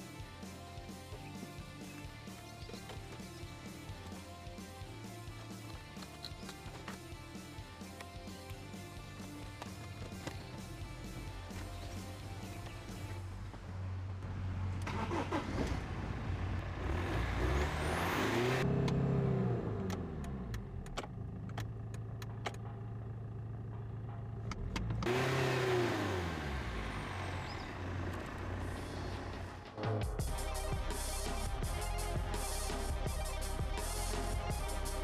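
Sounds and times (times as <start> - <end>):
car engine revving and idling: 0.0 - 35.0.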